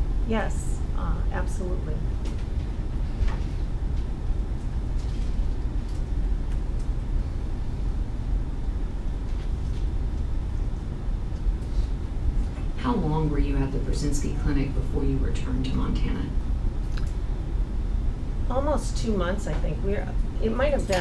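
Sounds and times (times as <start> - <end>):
low room rumble: 0.0 - 21.0.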